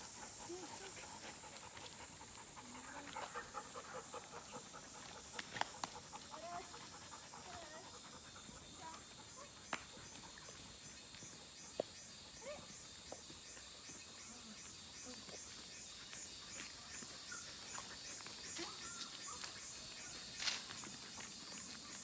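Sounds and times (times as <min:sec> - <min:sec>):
dogs panting: 0:00.0 - 0:22.0.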